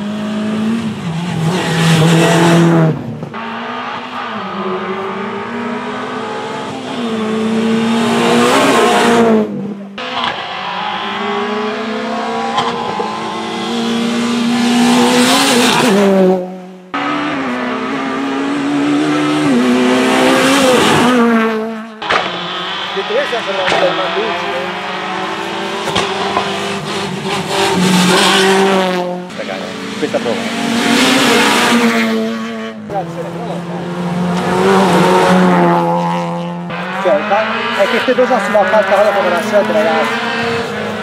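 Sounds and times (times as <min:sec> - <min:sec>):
rally car engines accelerating: 0:00.0 - 0:41.0.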